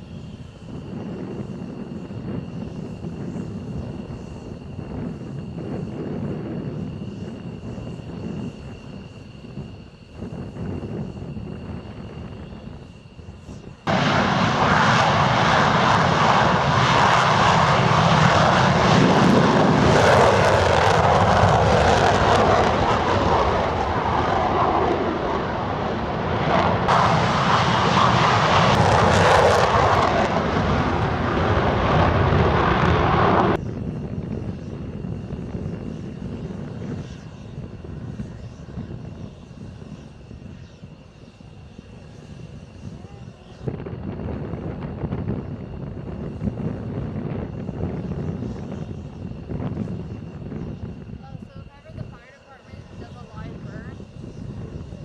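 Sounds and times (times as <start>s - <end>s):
jet aircraft engine noise: 0.0s - 55.0s.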